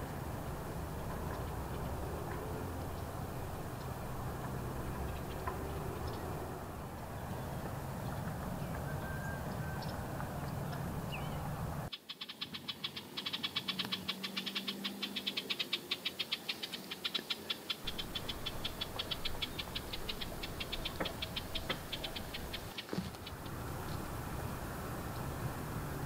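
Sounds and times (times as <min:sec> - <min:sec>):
faint bird chirps: 0:01.1 - 0:24.1.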